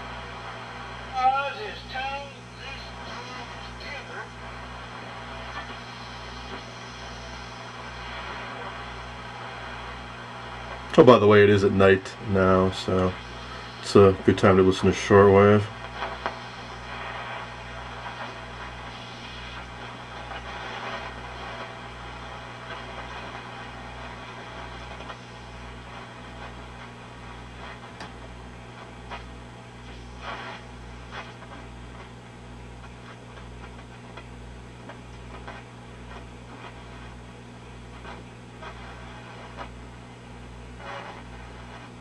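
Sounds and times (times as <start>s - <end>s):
radio static and hiss: 0.0s - 42.0s
throbbing mains hum: 0.0s - 42.0s
short crackles: 1.6s - 15.1s, 15.7s - 39.8s, 40.7s - 42.0s.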